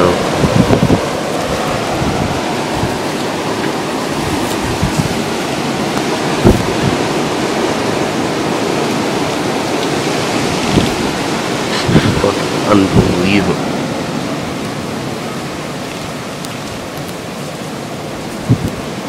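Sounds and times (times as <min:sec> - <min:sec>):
roar of wind and blown snow: 0:00.0 - 0:19.0
wind buffets on microphone: 0:00.0 - 0:19.0.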